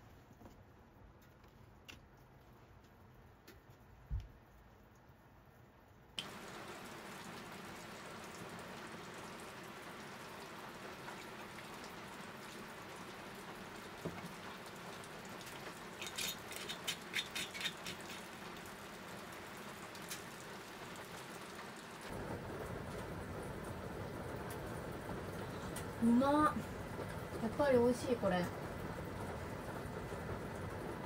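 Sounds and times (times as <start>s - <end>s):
rain on a camper roof: 0.0s - 31.0s.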